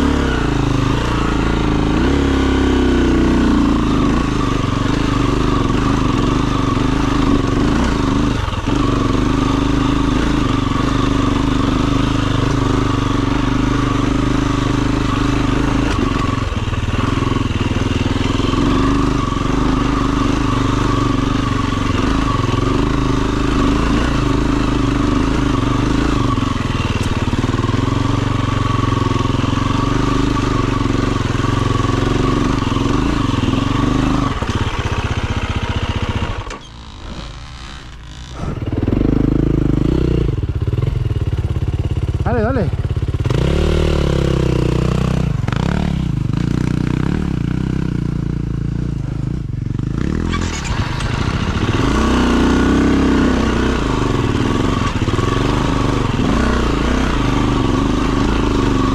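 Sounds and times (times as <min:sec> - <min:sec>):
dirt bike engine running: 0:00.0 - 0:58.9.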